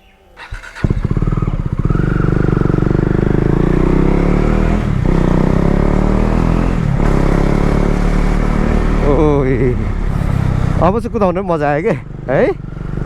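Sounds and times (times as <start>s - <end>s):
motorcycle engine running loud: 0.4s - 13.0s.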